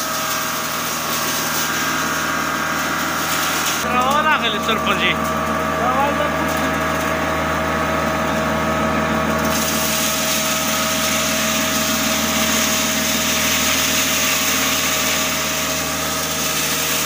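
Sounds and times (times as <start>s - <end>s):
crushing machine humming: 0.0s - 17.0s.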